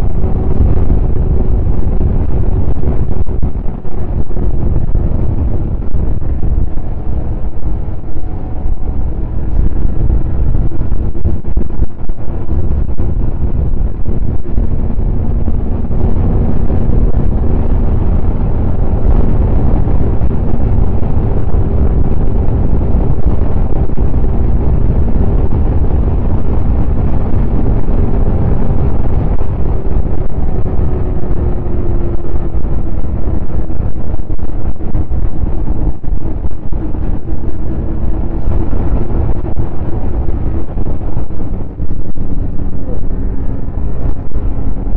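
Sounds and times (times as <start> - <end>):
snowmobile engine running: 0.0 - 44.9
wind buffeting microphone: 0.0 - 44.9.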